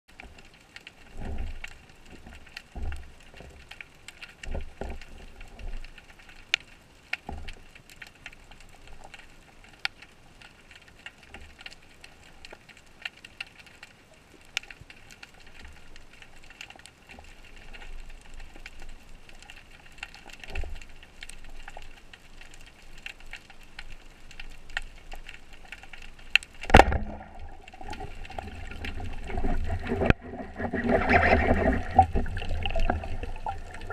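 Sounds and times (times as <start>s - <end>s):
sharp underwater clicks: 0.1s - 33.9s.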